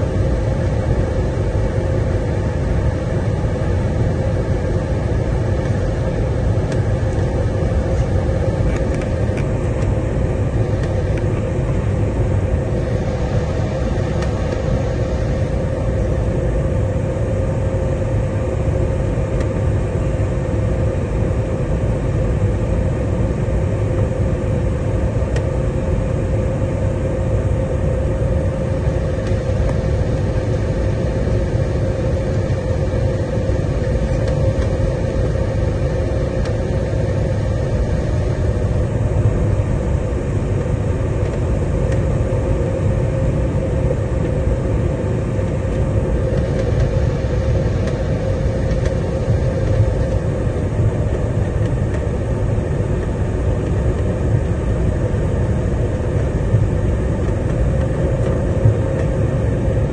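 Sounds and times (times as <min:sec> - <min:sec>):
airliner engines and rushing air: 0:00.0 - 0:59.9
constant hum: 0:00.0 - 0:59.9.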